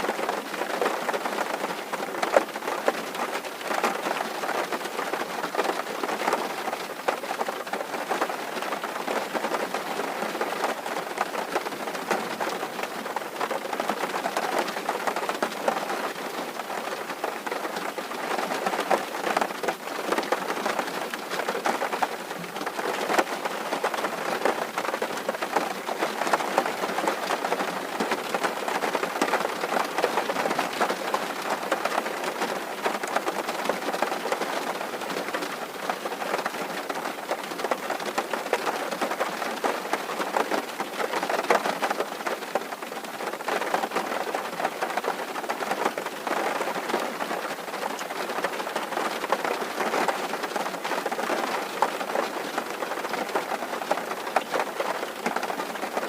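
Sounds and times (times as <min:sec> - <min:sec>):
rain on a tin roof: 0:00.0 - 0:56.0.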